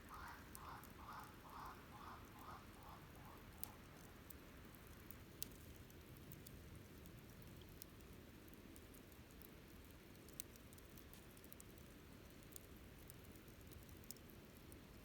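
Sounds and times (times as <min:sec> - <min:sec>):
campfire crackling: 0:00.0 - 0:15.0
low steady background noise: 0:00.0 - 0:15.0.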